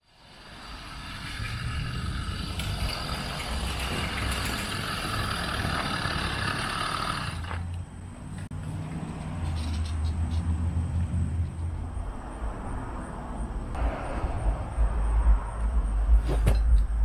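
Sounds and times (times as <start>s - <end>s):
vehicle engine rumble: 0.1s - 17.0s.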